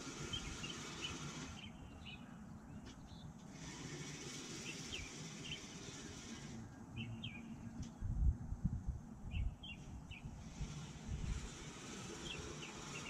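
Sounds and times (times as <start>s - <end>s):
birds chirping: 0.0s - 8.2s, 9.2s - 13.0s.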